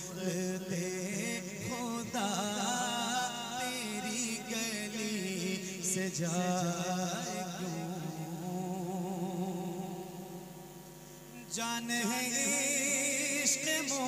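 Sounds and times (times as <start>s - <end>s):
wordless sung melody: 0.0s - 14.0s.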